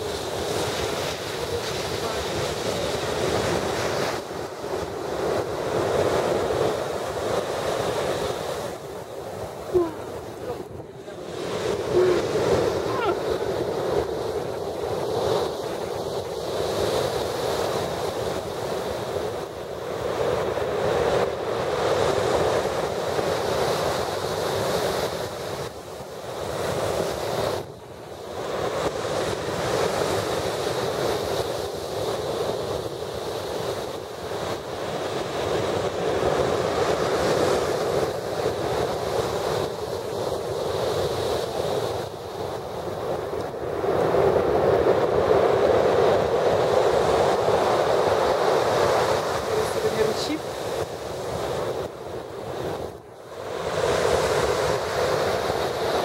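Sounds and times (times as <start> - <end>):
surf crashing on pebble beach: 0.0 - 27.7, 28.4 - 56.0.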